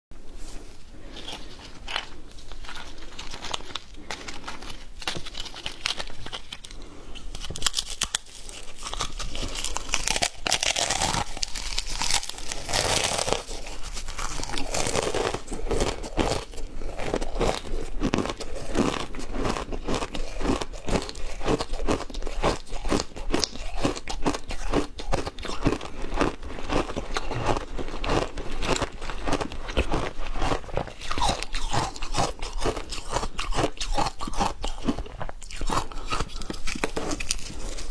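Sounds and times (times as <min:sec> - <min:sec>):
person crunching frozen ice: 0:01.1 - 0:37.9.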